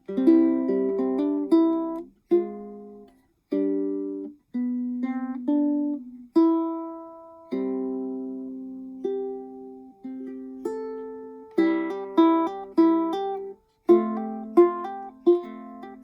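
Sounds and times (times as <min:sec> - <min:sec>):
ukulele played fingerstyle: 0:00.0 - 0:16.0.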